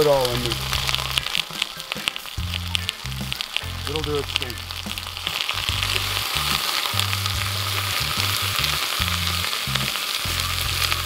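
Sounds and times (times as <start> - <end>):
vegetables sizzling in butter: 0.0 - 11.0.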